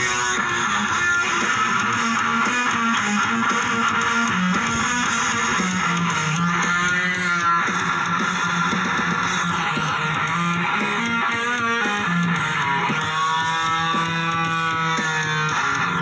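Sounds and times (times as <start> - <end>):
electric guitar background music: 0.0 - 16.0.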